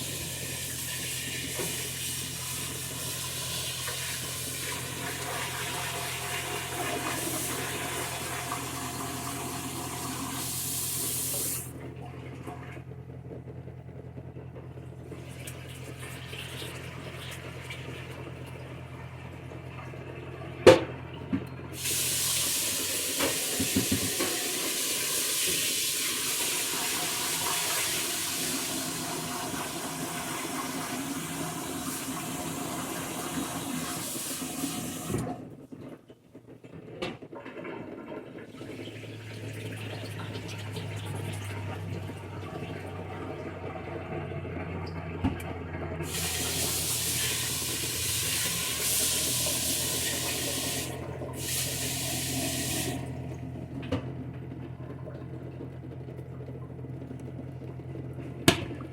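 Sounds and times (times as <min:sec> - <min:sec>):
water running from kitchen tap: 0:00.0 - 0:12.8, 0:15.0 - 0:35.4, 0:37.5 - 0:58.9.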